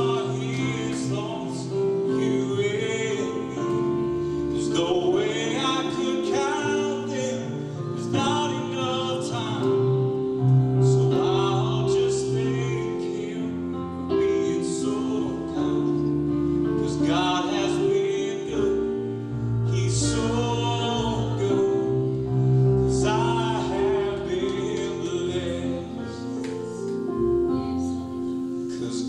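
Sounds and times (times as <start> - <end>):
keyboard chords: 0.0 - 29.0
man singing amplified: 0.0 - 29.0.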